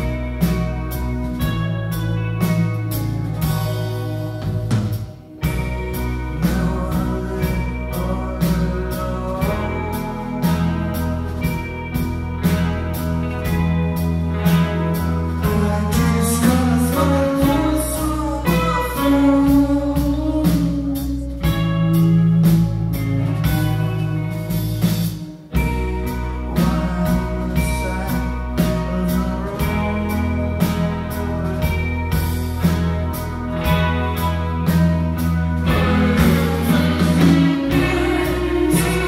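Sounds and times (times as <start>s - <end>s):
rock band playing: 0.0s - 39.0s
person singing: 2.6s - 39.0s.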